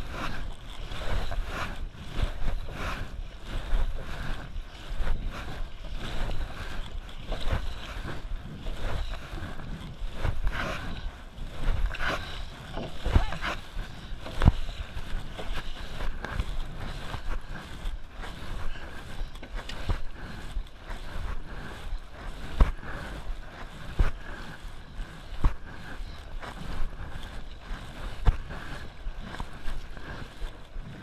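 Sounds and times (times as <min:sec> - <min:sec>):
water splashing around canoe: 0:00.0 - 0:31.0
wind buffeting microphone: 0:00.0 - 0:31.0.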